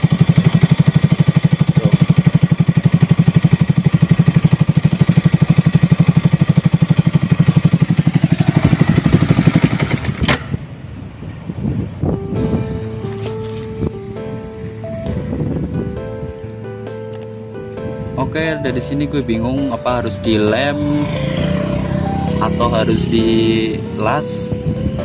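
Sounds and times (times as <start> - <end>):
motorcycle engine idling: 0.0 - 10.9, 12.4 - 25.0.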